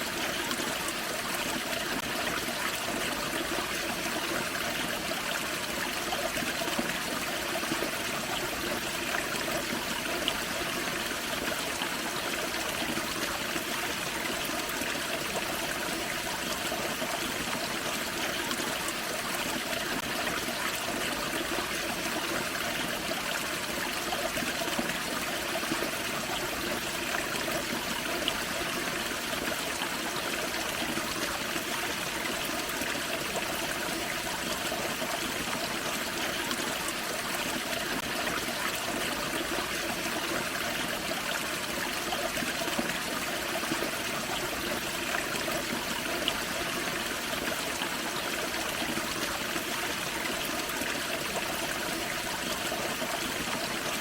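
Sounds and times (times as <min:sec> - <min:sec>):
water rushing and trickling: 0:00.0 - 0:54.0.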